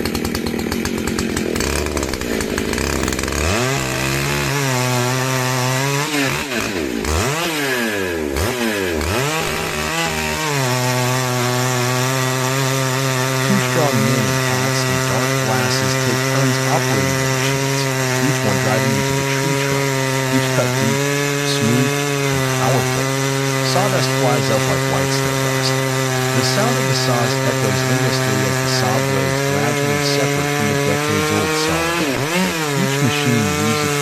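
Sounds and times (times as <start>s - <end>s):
chainsaw revving and cutting wood: 0.0s - 34.0s.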